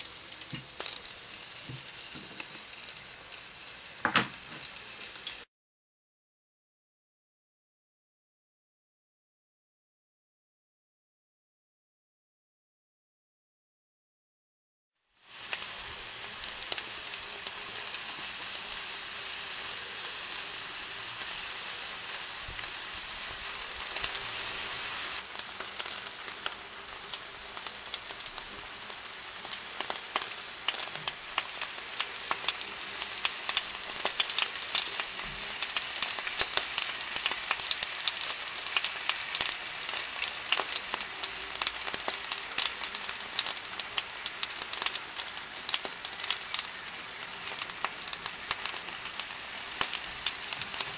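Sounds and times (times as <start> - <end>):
steaks sizzling on a grill: 0.0 - 5.4, 15.2 - 50.9.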